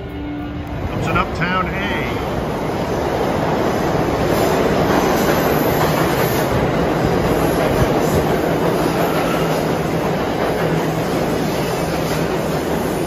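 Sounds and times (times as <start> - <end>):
subway train wheels rumbling on rail: 0.0 - 13.0.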